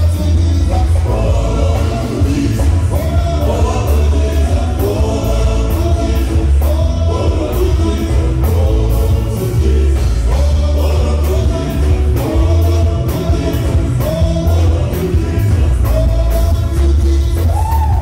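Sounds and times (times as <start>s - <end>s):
heavy bass: 0.0s - 18.0s
men singing gospel song: 0.0s - 18.0s
steady drum beat: 0.0s - 18.0s.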